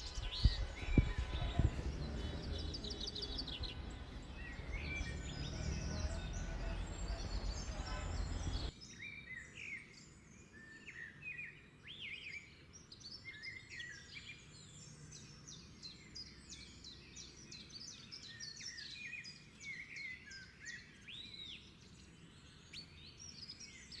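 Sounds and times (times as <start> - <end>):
wild birds chirping: 0.0 - 24.0.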